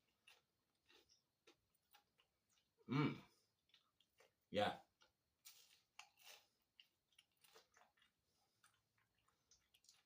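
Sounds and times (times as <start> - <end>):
person chewing crunchy fries: 0.0 - 10.0.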